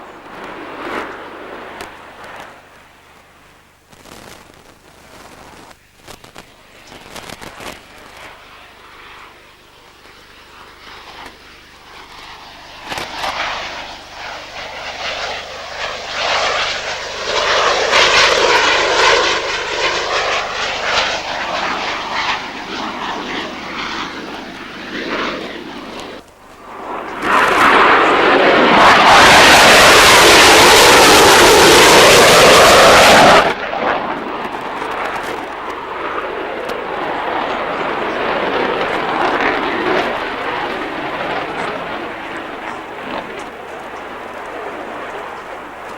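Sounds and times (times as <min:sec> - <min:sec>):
jet aircraft passing overhead: 0:00.0 - 0:45.9.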